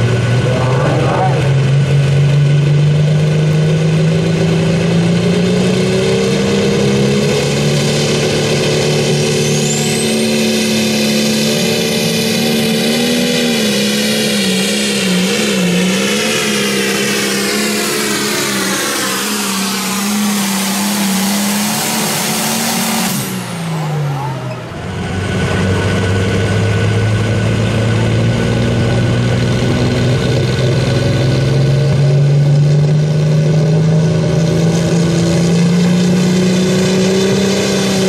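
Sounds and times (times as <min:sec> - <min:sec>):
diesel tractor engine at full throttle: 0:00.0 - 0:38.0
high turbo whine: 0:00.0 - 0:38.0.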